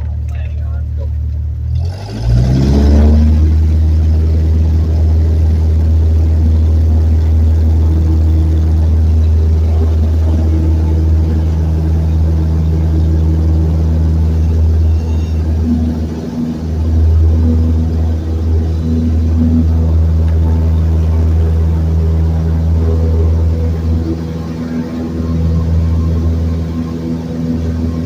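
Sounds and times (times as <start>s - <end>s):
airplane engine and propeller drone: 0.0s - 28.0s.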